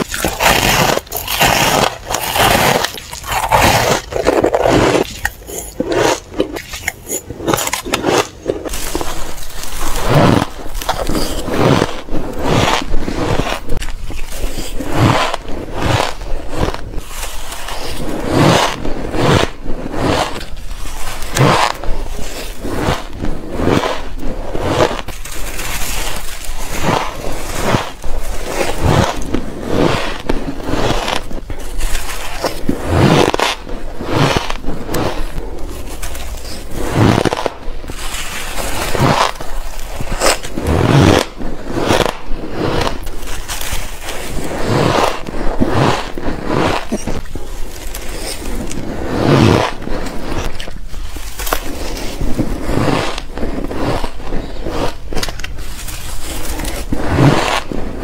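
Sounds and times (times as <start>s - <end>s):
ice being chewed: 0.0s - 57.8s.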